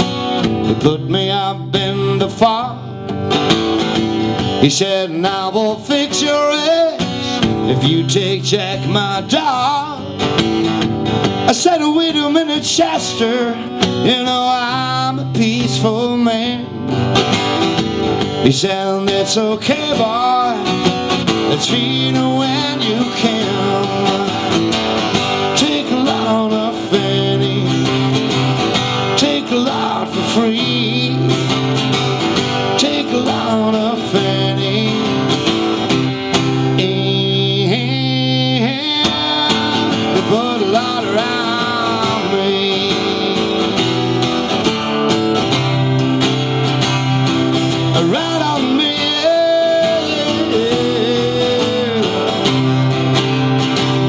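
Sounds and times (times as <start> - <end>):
acoustic guitar strumming: 0.0 - 54.0
man singing: 0.6 - 3.0, 4.4 - 10.4, 11.3 - 17.0, 18.2 - 44.6, 47.5 - 53.2.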